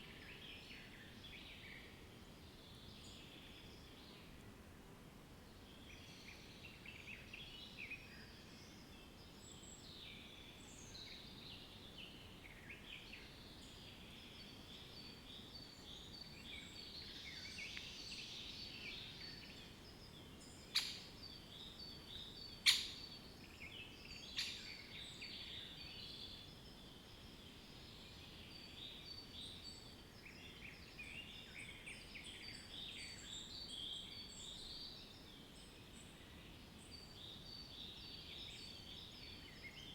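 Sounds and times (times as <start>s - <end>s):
outdoor background hiss: 0.0s - 39.9s
small birds chirping: 5.9s - 39.9s.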